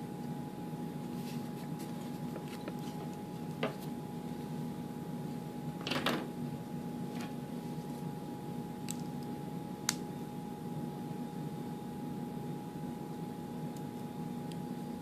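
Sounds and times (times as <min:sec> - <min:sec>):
low hum with thin whine: 0:00.0 - 0:15.0.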